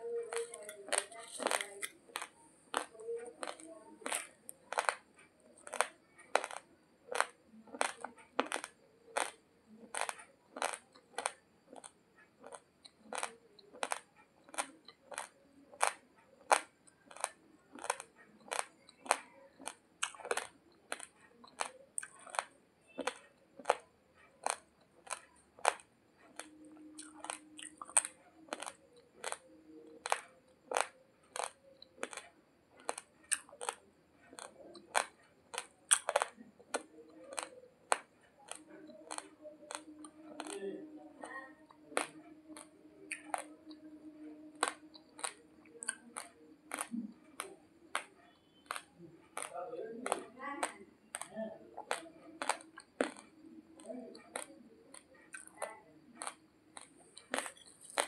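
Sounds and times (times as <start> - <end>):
chewing crunchy rice grains: 0.0 - 58.0.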